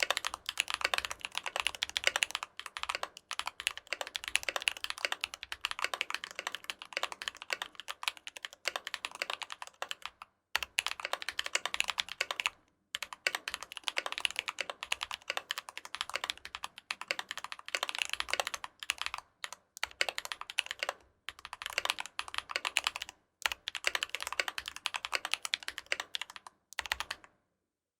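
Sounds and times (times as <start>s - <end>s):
fast typing on mechanical keyboard: 0.0s - 27.3s.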